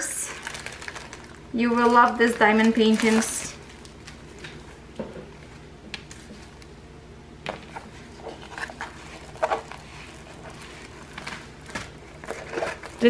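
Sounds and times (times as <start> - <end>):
plastic wrap crinkling: 0.0 - 6.7, 7.6 - 13.0.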